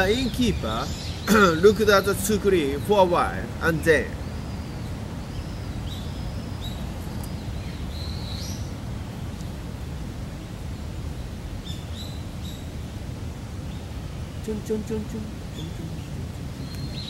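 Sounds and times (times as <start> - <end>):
birds chirping: 0.0 - 12.9, 13.5 - 17.0
low outdoor rumble: 0.0 - 17.0.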